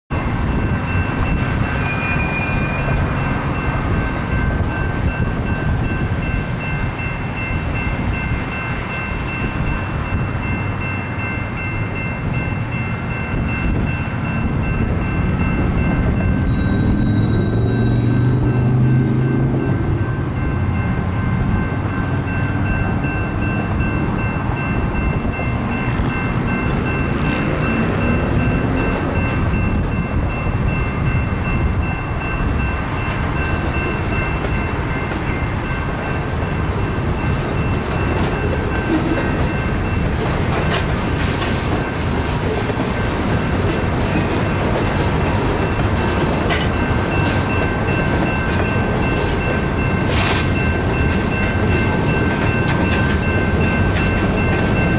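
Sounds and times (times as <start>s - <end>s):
high ringing tones: 0.1s - 54.9s
steel wheels rumbling and clicking: 9.5s - 54.9s.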